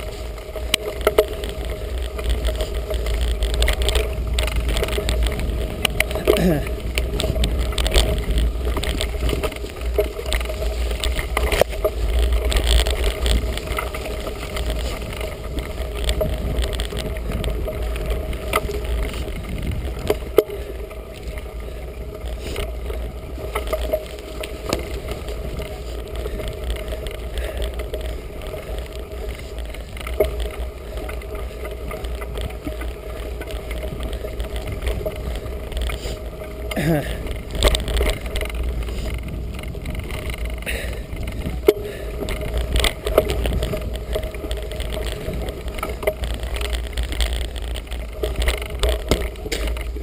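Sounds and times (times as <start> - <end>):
bike clicks and knocks: 0.0 - 50.0
bike tyres rumbling: 0.0 - 50.0
wind on microphone: 0.0 - 50.0.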